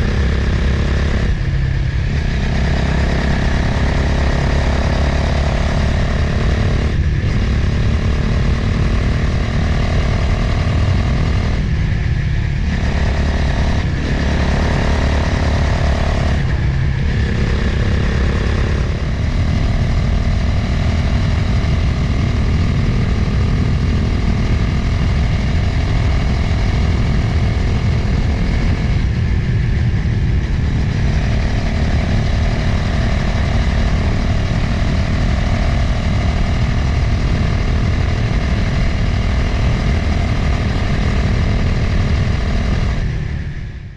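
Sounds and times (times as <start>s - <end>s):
motorcycle engine running: 0.0s - 43.9s
wind rumble on microphone: 0.0s - 43.9s.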